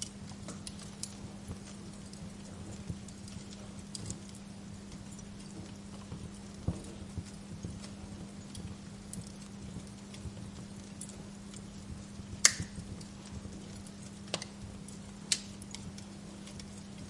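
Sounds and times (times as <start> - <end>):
burning logs popping: 0.0 - 17.0
faint steady hum: 0.0 - 17.0
wood fire crackling: 0.0 - 17.0.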